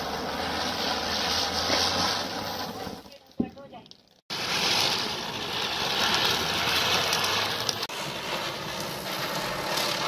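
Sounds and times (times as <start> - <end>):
ground spinner firework hissing: 0.0 - 10.0.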